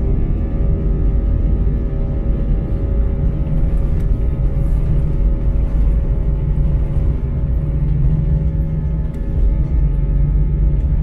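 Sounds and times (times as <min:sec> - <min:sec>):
jet engines: 0:00.0 - 0:11.0
wheels rumbling on runway: 0:00.0 - 0:11.0.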